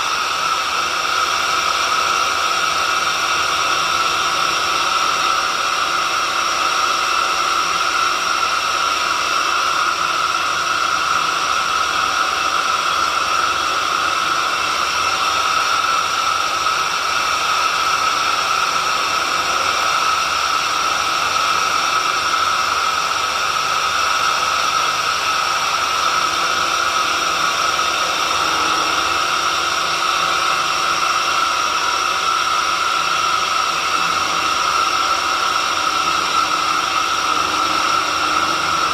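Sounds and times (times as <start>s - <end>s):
drilling machine motor whine: 0.0s - 38.9s.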